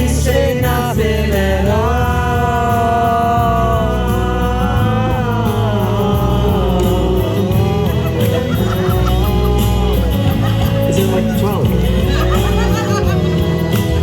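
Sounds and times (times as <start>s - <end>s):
backing music with bass: 0.0s - 14.0s
man singing: 0.0s - 14.0s.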